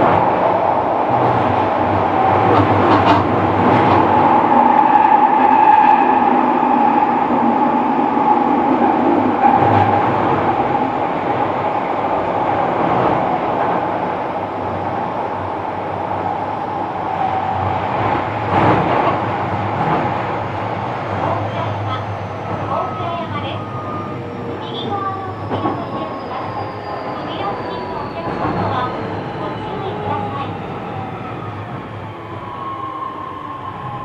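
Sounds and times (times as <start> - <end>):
train wheels rumbling: 0.0 - 34.0.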